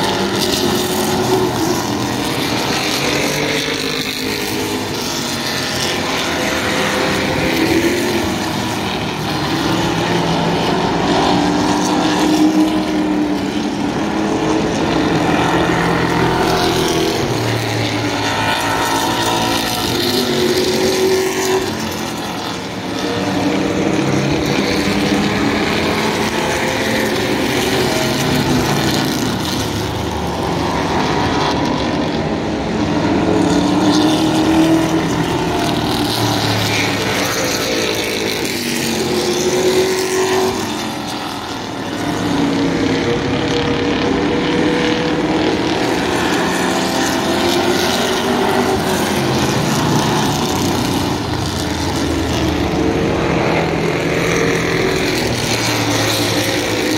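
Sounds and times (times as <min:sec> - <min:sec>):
race car engines passing: 0:00.0 - 0:56.9.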